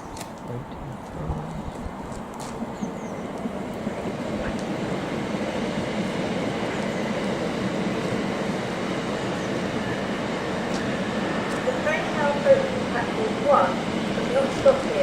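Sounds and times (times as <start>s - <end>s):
train running on track: 0.0s - 15.0s.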